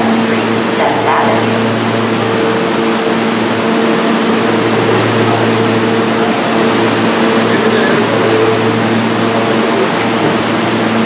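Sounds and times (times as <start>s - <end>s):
subway train equipment hum: 0.0s - 11.0s.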